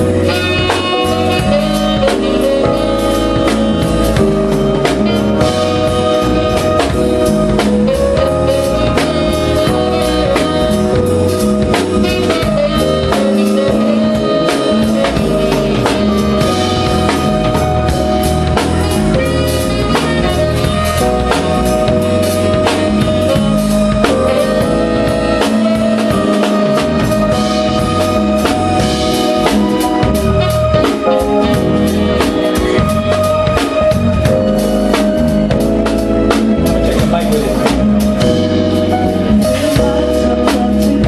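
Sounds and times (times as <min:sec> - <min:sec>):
bass: 0:00.0 - 0:41.0
drum kit beat: 0:00.0 - 0:41.0
keyboards: 0:00.0 - 0:41.0
saxophone: 0:00.0 - 0:41.0.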